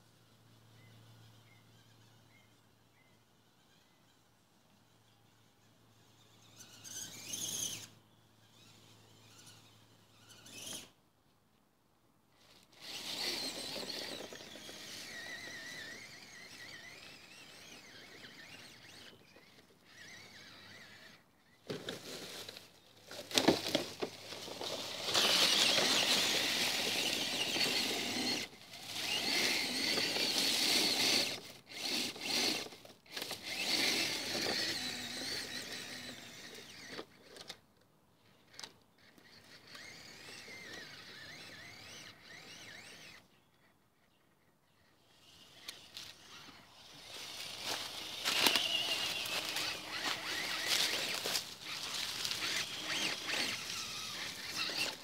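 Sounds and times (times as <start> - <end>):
toy truck motor whining: 0.7 - 11.0, 12.3 - 55.0.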